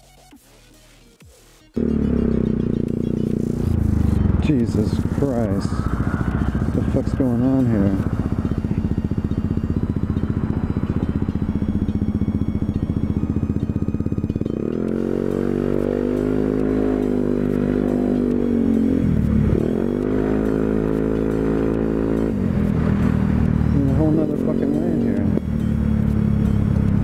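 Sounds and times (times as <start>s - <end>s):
scooter engine: 1.8s - 27.0s.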